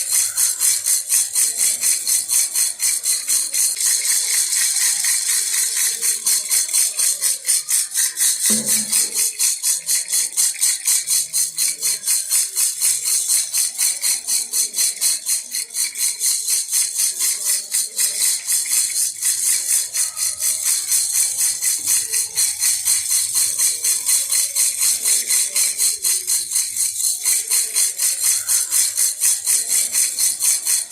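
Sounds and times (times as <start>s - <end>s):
baby rattle shaken: 0.0s - 30.9s.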